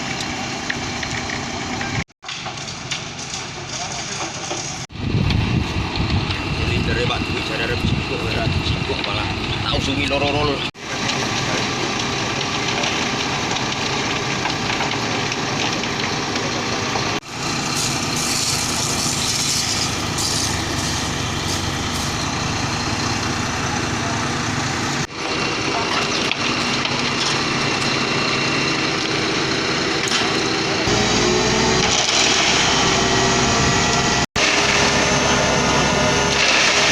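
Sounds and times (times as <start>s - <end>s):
diesel truck engine running: 0.0s - 2.1s, 5.0s - 36.9s.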